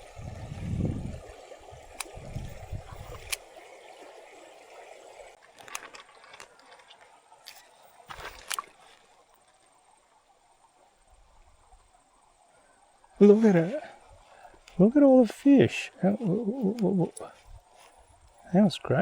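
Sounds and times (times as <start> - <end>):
shallow creek running: 0.0 - 19.0.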